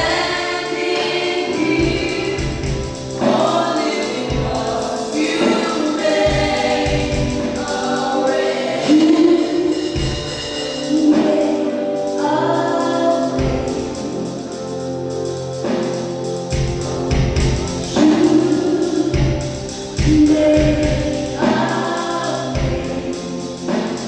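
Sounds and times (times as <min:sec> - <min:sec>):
choir and congregation singing: 0:00.0 - 0:24.0.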